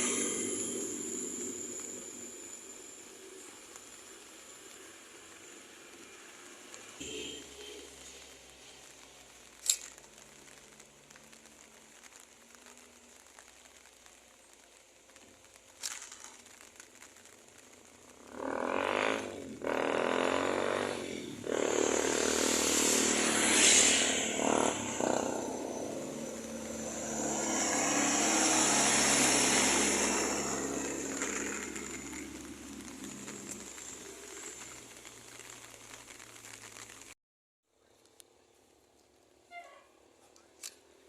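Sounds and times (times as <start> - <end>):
bus engine and tyre noise: 0.0 - 37.2.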